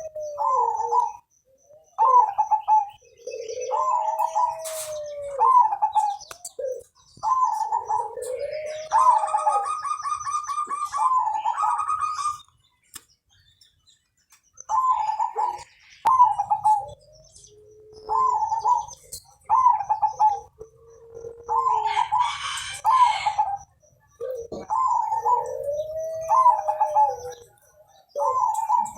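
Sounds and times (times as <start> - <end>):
dove cooing: 0.0 - 12.5, 14.6 - 28.9.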